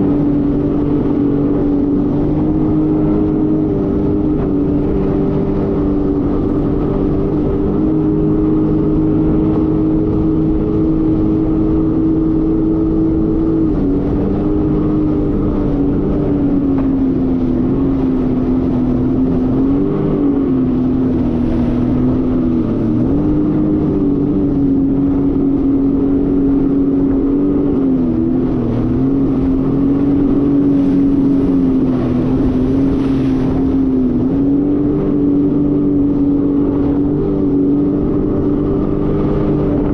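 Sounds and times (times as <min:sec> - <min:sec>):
jet ski engine running: 0:00.0 - 0:39.9.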